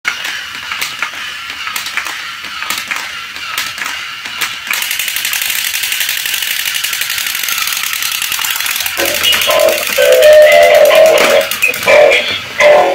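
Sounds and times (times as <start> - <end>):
toy motors clicking and rattling: 0.1 - 12.3.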